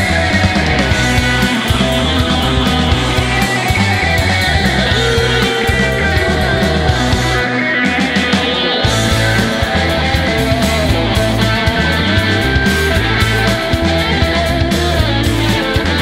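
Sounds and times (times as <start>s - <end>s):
live space rock band: 0.0s - 16.0s.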